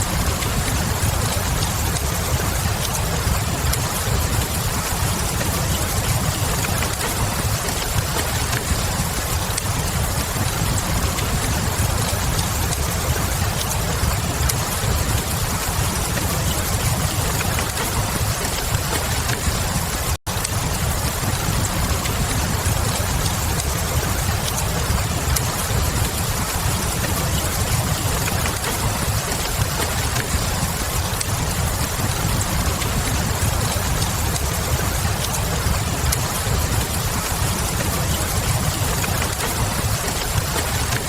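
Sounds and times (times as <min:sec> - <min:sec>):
burning logs crackling: 0:00.0 - 0:41.0
rain hiss: 0:00.0 - 0:41.0.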